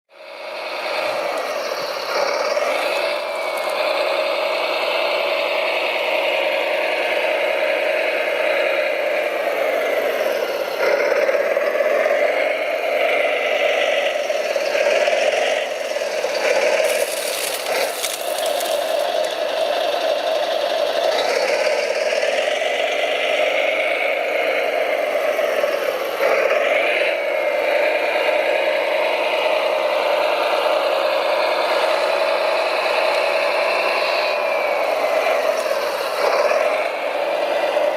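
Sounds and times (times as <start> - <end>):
gear whine: 0.1 - 37.9
motor hum: 0.2 - 37.9.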